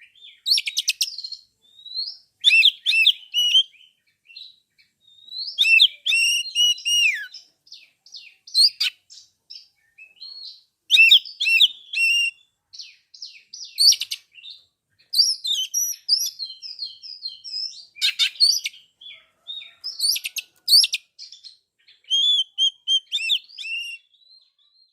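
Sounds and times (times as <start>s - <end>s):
bird singing whistled phrases: 0.0s - 24.9s.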